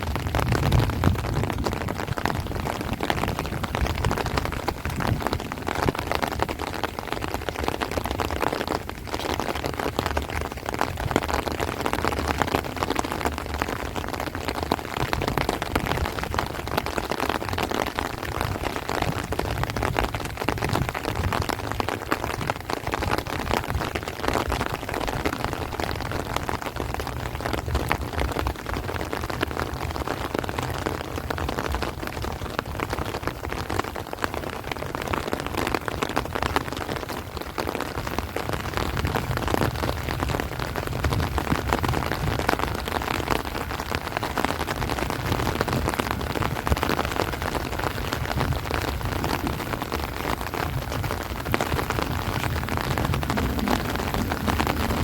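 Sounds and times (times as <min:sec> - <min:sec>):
heavy rain on leaves: 0:00.0 - 0:55.0
wind rumble on microphone: 0:00.0 - 0:55.0.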